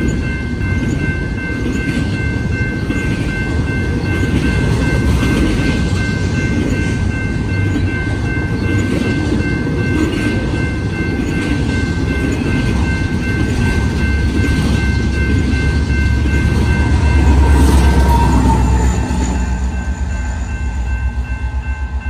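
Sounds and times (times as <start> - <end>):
crossing bell ringing: 0.0 - 22.0
diesel locomotive engine rumble: 0.0 - 22.0
train rumble and clatter on rails: 0.0 - 22.0.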